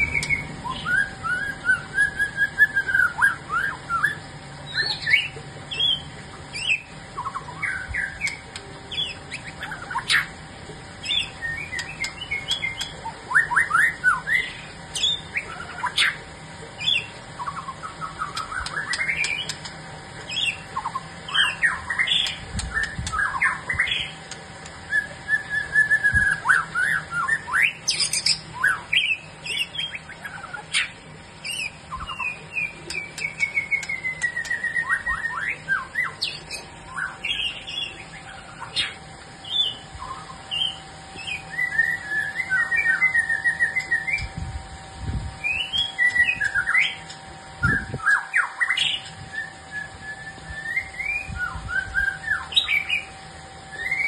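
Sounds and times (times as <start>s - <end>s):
bird singing whistled song: 0.0s - 10.3s, 11.0s - 16.2s, 16.8s - 24.2s, 24.9s - 44.4s, 45.4s - 53.1s, 53.7s - 54.0s.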